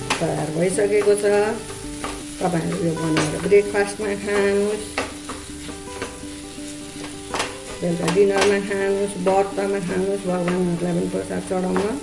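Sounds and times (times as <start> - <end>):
light sizzle: 0.0 - 12.0
wooden spatula scraping wok: 0.0 - 12.0.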